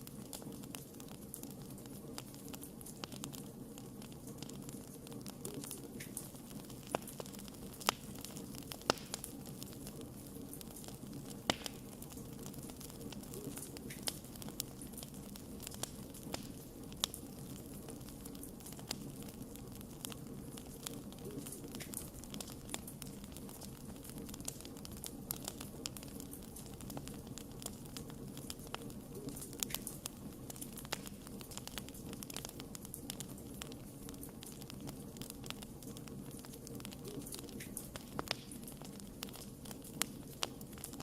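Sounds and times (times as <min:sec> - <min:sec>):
campfire flame rushing: 0:00.0 - 0:41.0
fire crackling and popping: 0:00.0 - 0:41.0.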